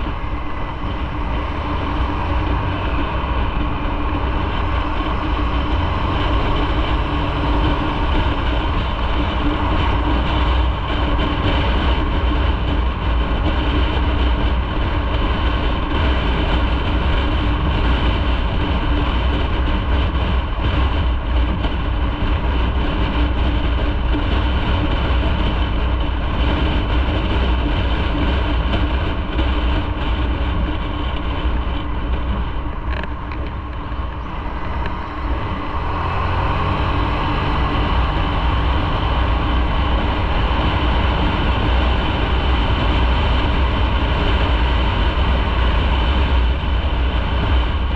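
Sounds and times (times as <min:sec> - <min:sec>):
motorcycle engine running: 0:00.0 - 0:47.9
wind rumble on microphone: 0:00.0 - 0:47.9.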